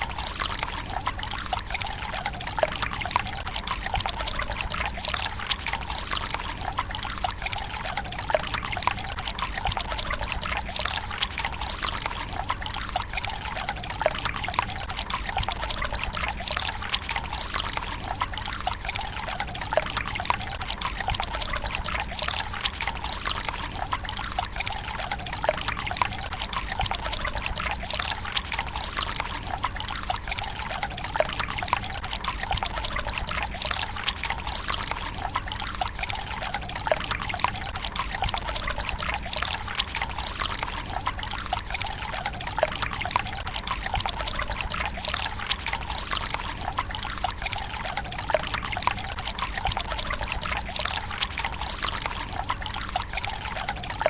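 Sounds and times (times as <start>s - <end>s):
water trickling into stone basin: 0.0s - 54.0s.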